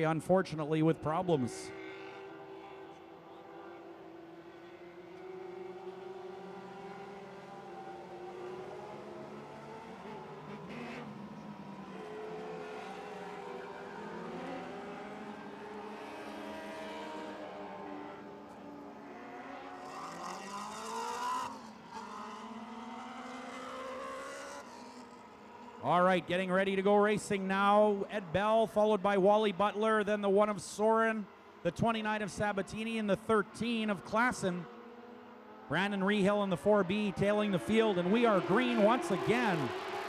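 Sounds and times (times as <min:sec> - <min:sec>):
race car engines running: 0:00.0 - 0:40.0.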